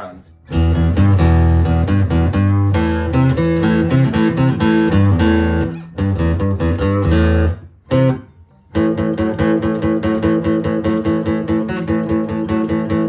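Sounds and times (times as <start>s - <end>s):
amplified guitar strumming: 0.0s - 13.0s.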